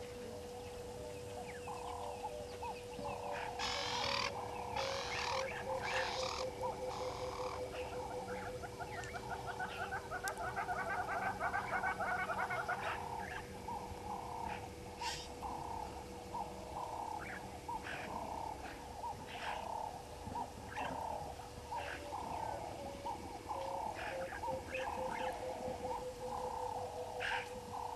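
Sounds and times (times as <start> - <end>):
frogs calling: 0.0 - 27.9.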